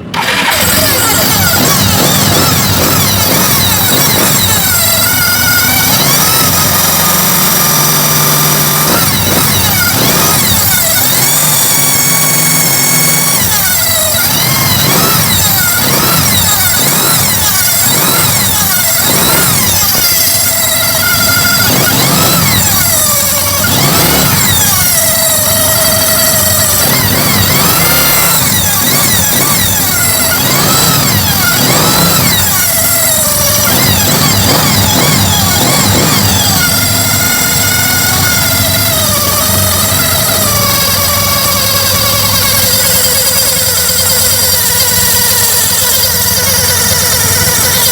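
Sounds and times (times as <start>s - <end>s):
cooling fan whistle: 0.0s - 47.9s
scooter engine revving: 0.0s - 47.9s.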